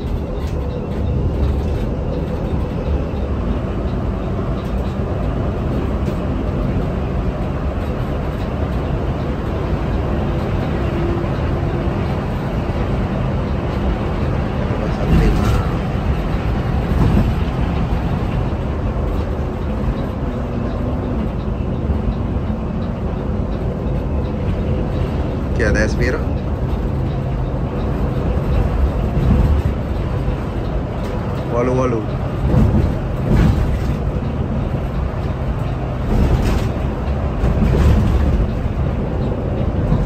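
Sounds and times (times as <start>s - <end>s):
diesel engine hum: 0.0s - 40.0s
road and tyre rumble: 0.0s - 40.0s.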